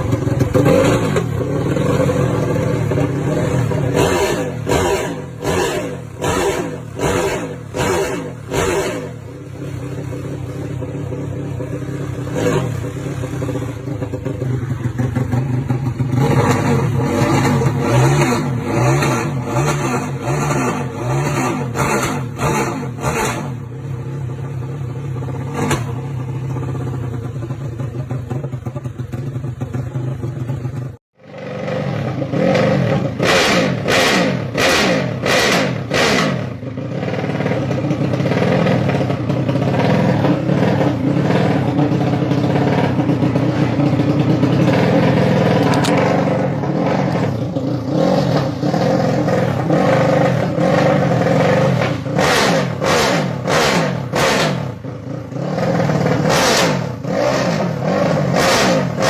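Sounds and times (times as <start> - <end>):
motorcycle engine idling: 0.0 - 18.6, 21.6 - 33.2, 36.5 - 52.2, 54.0 - 56.2
motorcycle engine revving: 0.0 - 59.0.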